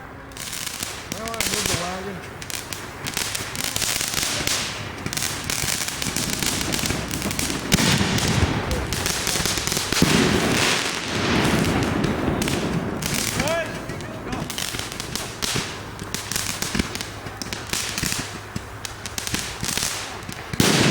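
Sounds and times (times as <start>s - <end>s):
fireworks booms: 0.0s - 20.9s
fireworks crackling: 0.0s - 20.9s.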